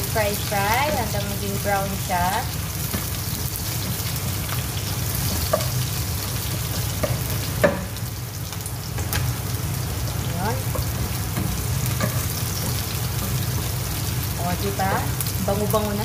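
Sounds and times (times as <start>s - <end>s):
onion and garlic sizzling in oil: 0.0s - 16.0s.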